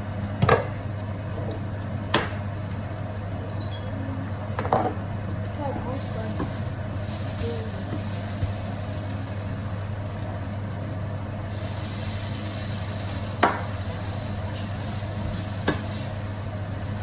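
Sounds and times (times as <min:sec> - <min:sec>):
onions frying in a pan: 0:00.0 - 0:17.0.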